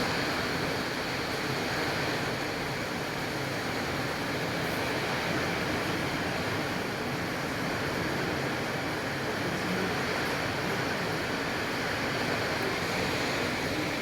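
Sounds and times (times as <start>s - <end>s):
rain in strong wind: 0.0s - 14.0s.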